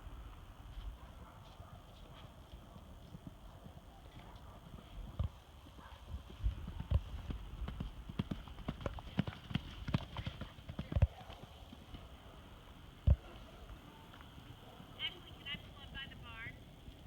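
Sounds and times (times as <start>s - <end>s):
pony hooves clip-clopping: 0.2s - 17.0s.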